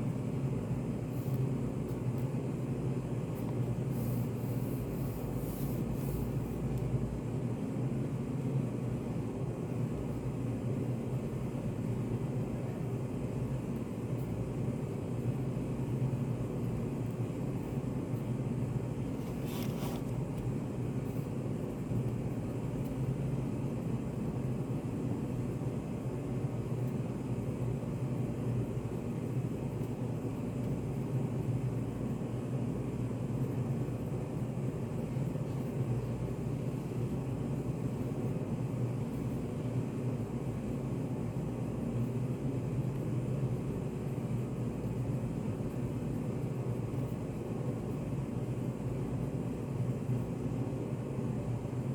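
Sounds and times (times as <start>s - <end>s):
low rumbling white noise: 0.0s - 51.9s.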